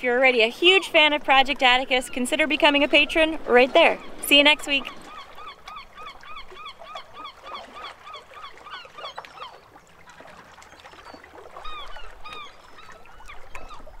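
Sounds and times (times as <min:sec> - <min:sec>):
birds calling: 0:00.0 - 0:09.8, 0:10.6 - 0:14.0.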